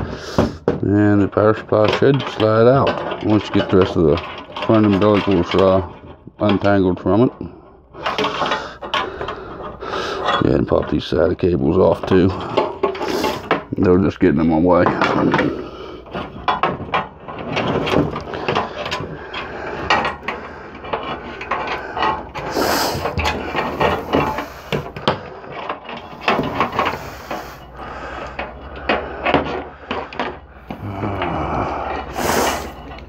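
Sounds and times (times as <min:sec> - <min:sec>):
cables rubbing and scraping: 0:00.0 - 0:33.0.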